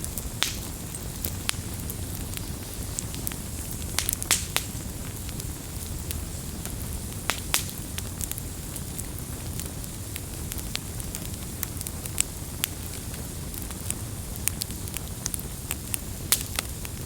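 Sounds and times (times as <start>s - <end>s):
fire pops and snaps: 0.0s - 17.0s
low rumble of flame: 0.0s - 17.0s.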